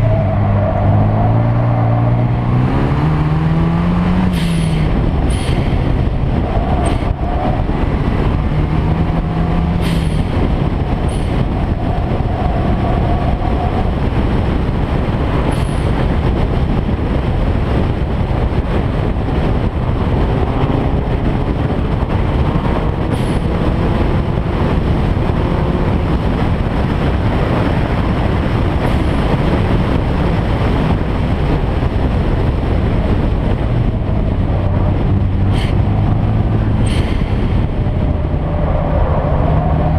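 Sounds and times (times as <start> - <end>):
car engine running at speed: 0.0 - 39.9
road and wind noise: 0.0 - 39.9.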